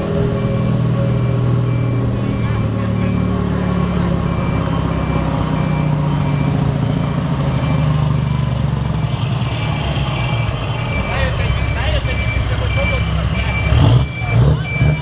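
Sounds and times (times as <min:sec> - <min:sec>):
reversing alarm beeping: 0:00.0 - 0:15.0
truck engine running: 0:00.0 - 0:15.0.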